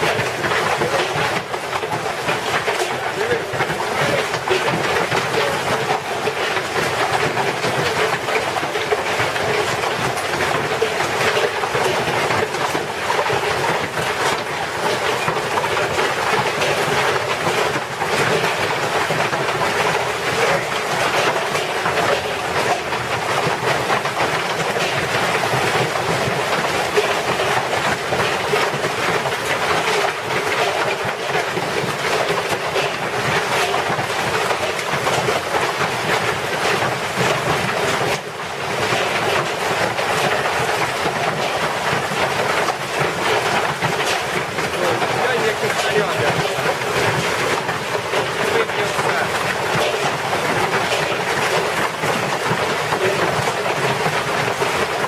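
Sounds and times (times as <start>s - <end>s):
loud steady rushing noise: 0.0s - 55.0s.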